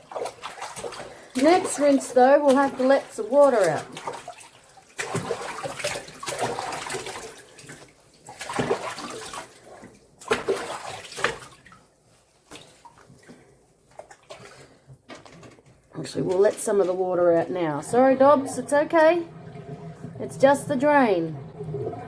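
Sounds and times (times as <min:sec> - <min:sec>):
bathwater splashing: 0:00.0 - 0:22.0.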